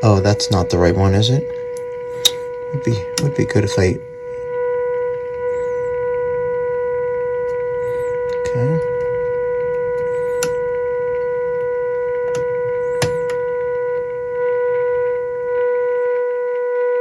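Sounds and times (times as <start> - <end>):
low hum: 0.0 - 17.0
steady test tone: 0.0 - 17.0.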